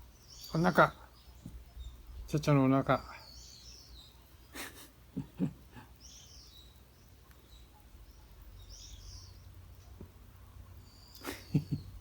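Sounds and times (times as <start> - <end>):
birds chirping: 0.0 - 12.0
low outdoor background: 0.0 - 12.0.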